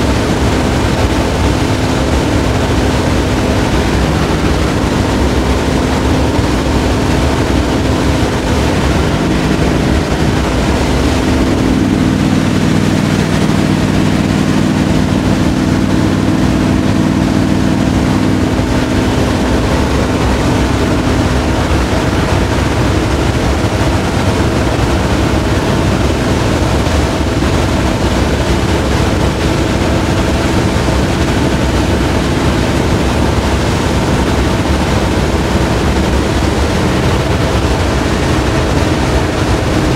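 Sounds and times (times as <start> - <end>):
engine hum: 0.0 - 39.9
road and wind noise: 0.0 - 39.9.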